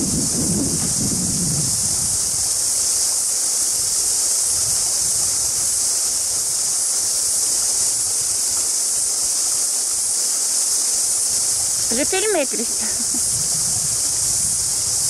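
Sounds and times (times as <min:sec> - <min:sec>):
cicada chorus hiss: 0:00.0 - 0:15.0.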